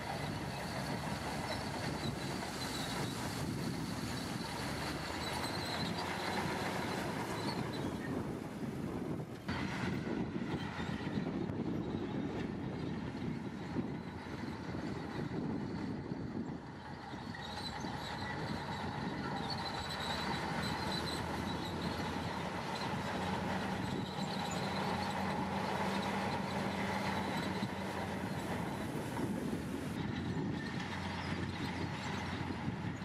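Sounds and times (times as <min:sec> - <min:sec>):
bulldozer diesel engines: 0:00.0 - 0:33.0.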